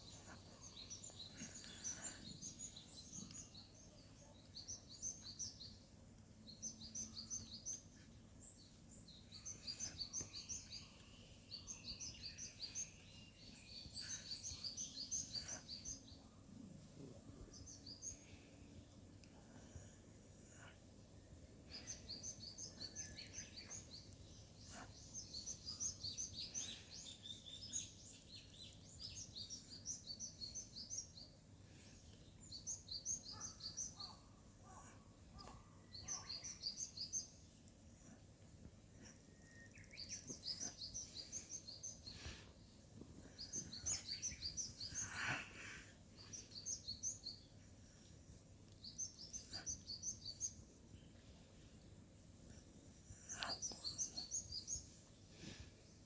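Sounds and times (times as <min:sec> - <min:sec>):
songbird chirping: 0:00.0 - 0:56.0.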